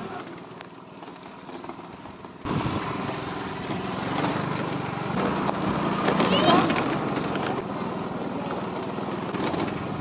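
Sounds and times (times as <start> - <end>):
outdoor background noise: 0.0 - 10.0
vehicle engine running: 0.0 - 10.0.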